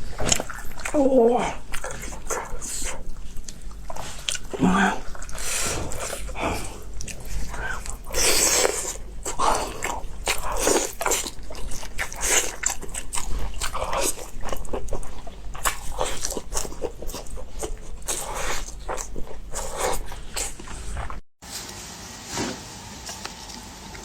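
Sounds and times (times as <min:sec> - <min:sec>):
food crunching: 0:00.0 - 0:21.2
person chewing food: 0:00.0 - 0:21.3.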